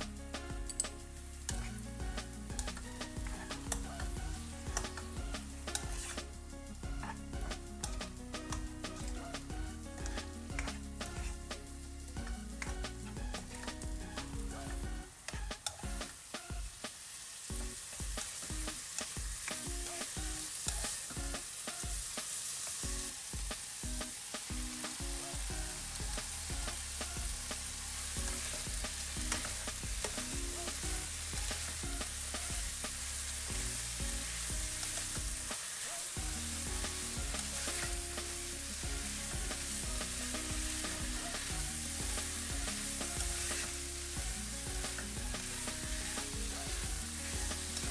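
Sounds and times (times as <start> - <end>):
food sizzling in a wok: 0.0 - 47.9.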